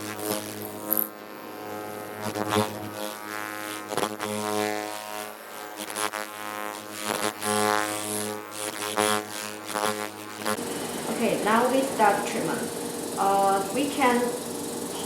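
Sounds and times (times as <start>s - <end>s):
beauty machine electric buzz: 0.0s - 15.0s.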